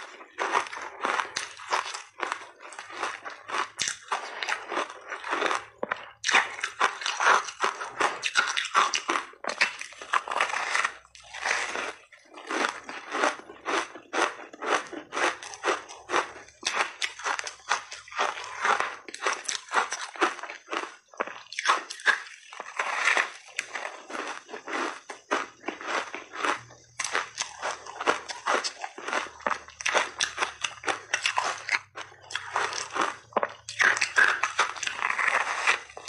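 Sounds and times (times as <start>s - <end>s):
ice crunching between teeth: 0.0s - 36.0s.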